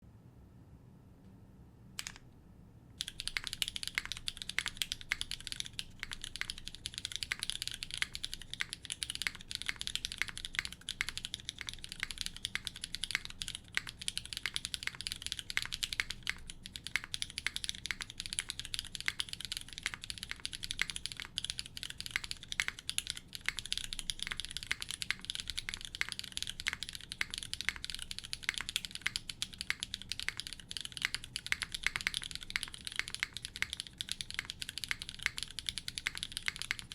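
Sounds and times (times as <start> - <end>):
fast keyboard typing: 3.0 - 36.9.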